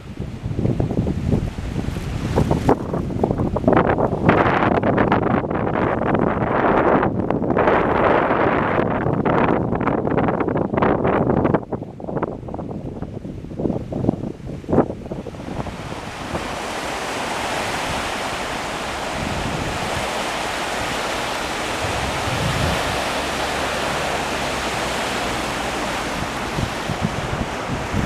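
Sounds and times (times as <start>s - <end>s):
surf rushing: 0.0s - 9.7s, 12.4s - 28.0s
wind buffeting microphone: 0.0s - 28.0s.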